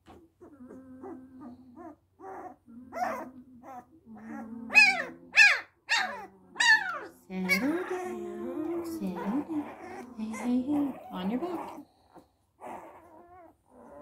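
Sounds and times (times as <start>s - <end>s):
puppy squealing and whining: 0.4s - 8.2s, 8.9s - 14.0s.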